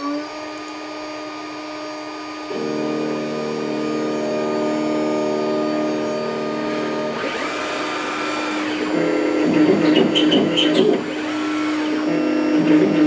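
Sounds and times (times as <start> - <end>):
cnc router cutting plastic: 0.0 - 13.0
rising machine whine: 0.0 - 13.0.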